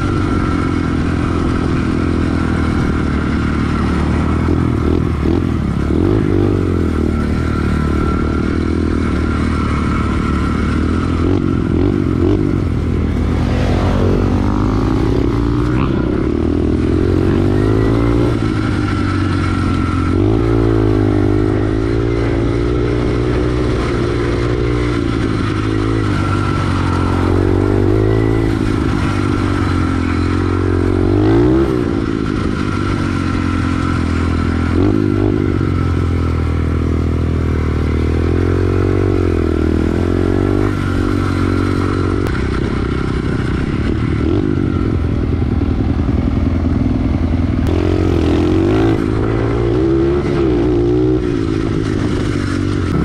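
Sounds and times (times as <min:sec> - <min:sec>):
pit bike engine revving: 0:00.0 - 0:53.0.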